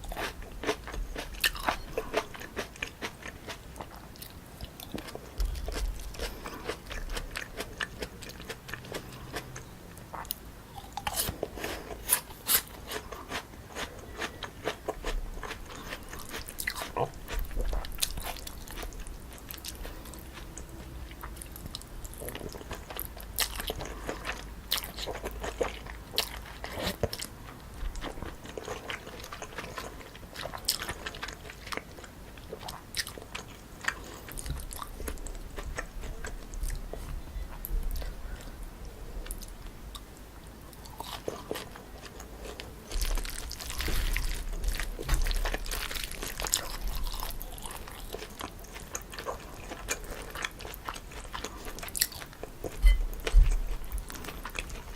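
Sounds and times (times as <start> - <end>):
crunching of crisp toppings: 0.0 - 54.9
person chewing noodles: 0.0 - 54.9.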